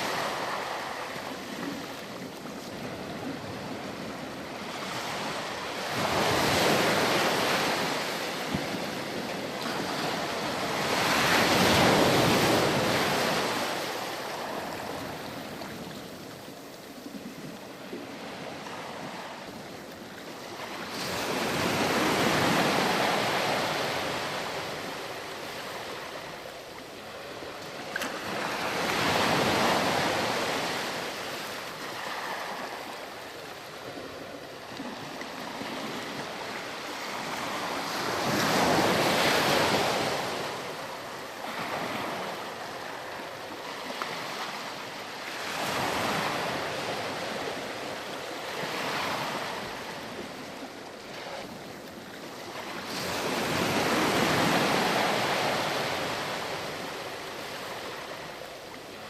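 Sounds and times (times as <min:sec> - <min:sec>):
ocean surf on sandy beach: 0:00.0 - 0:59.0.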